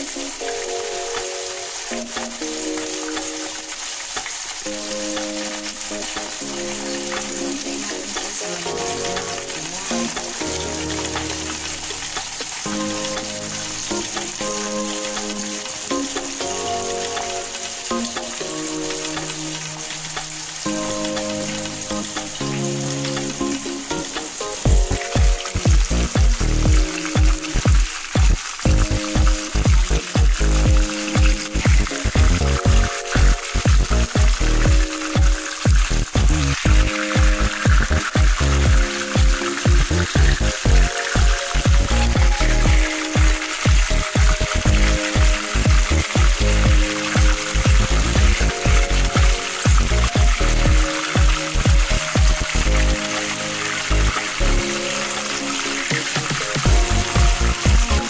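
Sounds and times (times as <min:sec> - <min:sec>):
background music: 0:00.0 - 0:58.0
chicken sizzling in a pan: 0:00.0 - 0:58.0.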